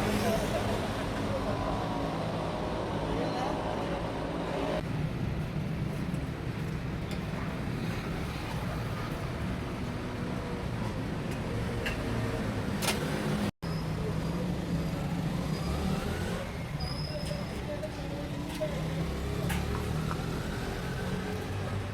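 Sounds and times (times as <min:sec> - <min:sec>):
roadside traffic noise: 0:00.0 - 0:21.9.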